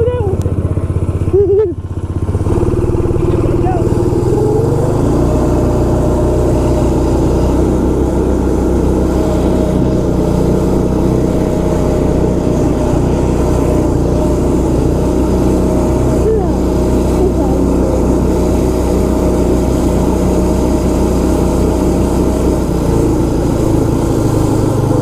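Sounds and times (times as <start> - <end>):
snowmobile engine running: 0.0 - 25.0.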